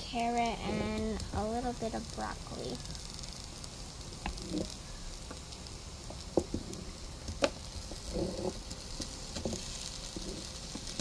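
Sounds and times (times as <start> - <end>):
faint sizzle of frying: 0.0 - 11.0.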